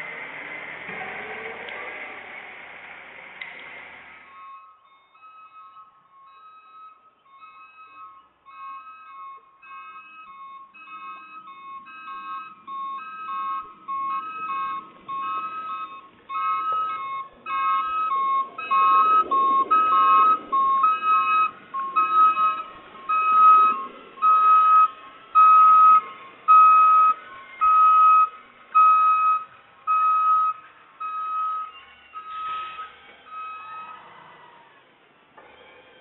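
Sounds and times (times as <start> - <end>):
electronic beeping: 4.3 - 34.0.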